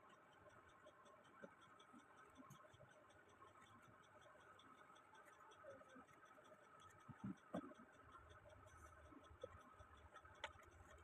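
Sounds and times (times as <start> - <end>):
light regular ticking: 0.0 - 11.0.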